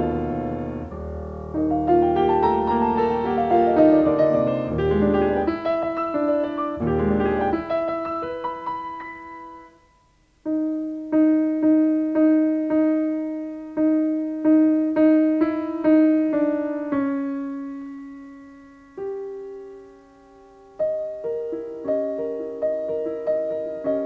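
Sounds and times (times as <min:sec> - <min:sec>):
soft solo piano: 0:00.0 - 0:24.0.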